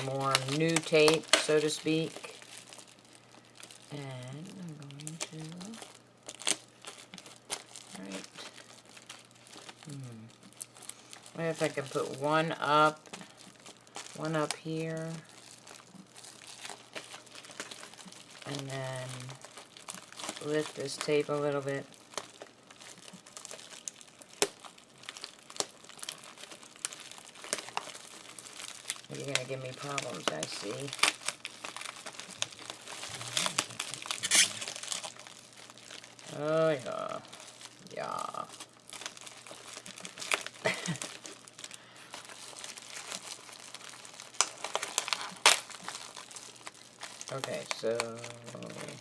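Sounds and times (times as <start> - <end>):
tape strips rustling: 0.0 - 49.0.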